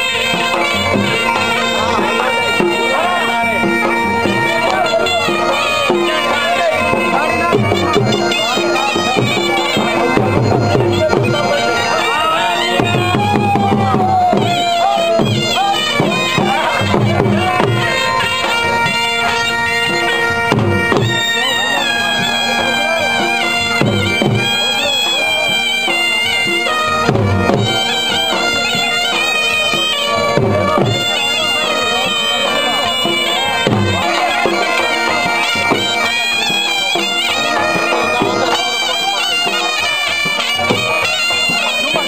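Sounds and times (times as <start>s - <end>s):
drum beats: 0.0s - 42.0s
wind instrument melody over drone: 0.0s - 42.0s.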